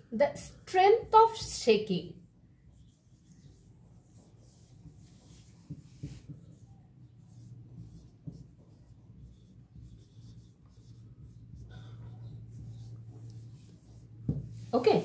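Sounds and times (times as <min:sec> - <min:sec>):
marker writing on whiteboard: 0:02.2 - 0:15.0
steady low hum: 0:02.2 - 0:15.0.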